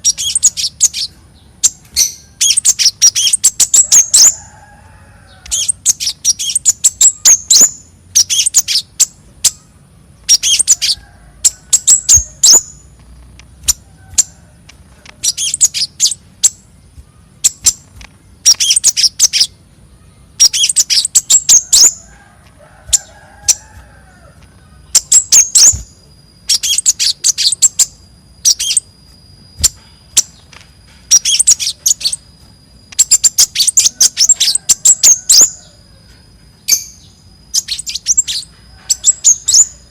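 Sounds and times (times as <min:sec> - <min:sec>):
high-pitched songbird chirps: 0:00.0 - 0:04.6, 0:05.4 - 0:14.4, 0:15.2 - 0:22.1, 0:24.6 - 0:39.9
faint lower bird calls: 0:00.0 - 0:39.9.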